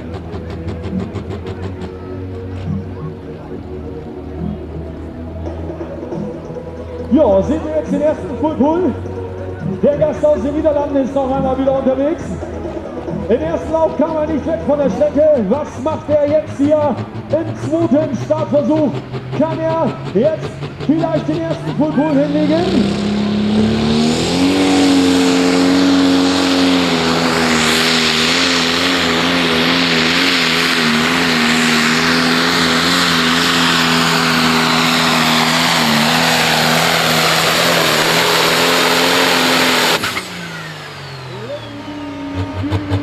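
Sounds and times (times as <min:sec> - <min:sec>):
diesel tractor engine at full throttle: 0:00.0 - 0:43.0.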